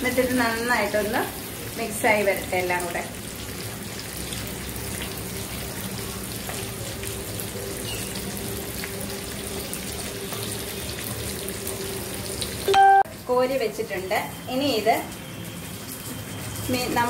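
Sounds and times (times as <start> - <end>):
curry sizzling and bubbling: 0.0 - 17.0.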